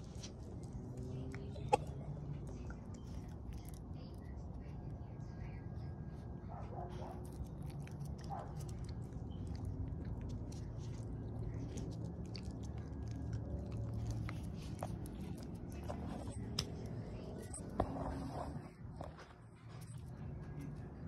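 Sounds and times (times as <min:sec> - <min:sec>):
pet chewing food: 0:00.0 - 0:04.6, 0:06.9 - 0:21.0
steady low rumble: 0:00.0 - 0:21.0.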